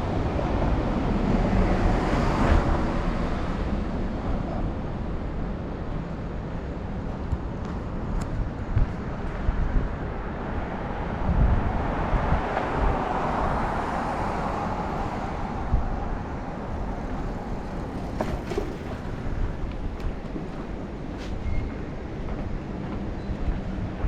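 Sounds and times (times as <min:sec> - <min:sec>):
street ambience: 0:00.0 - 0:24.0.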